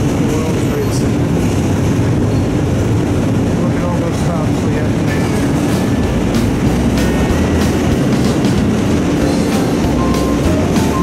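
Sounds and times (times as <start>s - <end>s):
subway car running noise: 0.0s - 11.0s.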